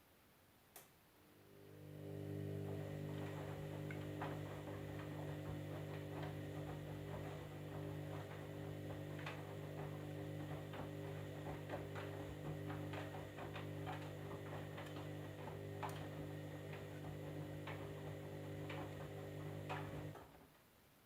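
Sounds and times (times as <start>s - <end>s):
washing machine motor hum: 1.3s - 20.4s.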